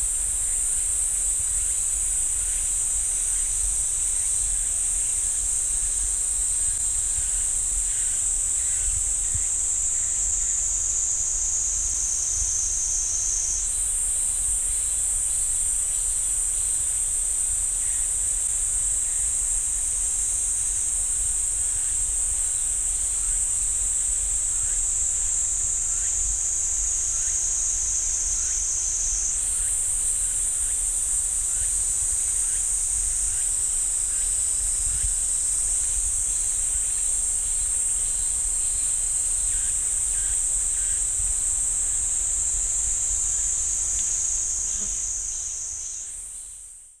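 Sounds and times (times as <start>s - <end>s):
cicadas buzzing: 0.0s - 47.0s.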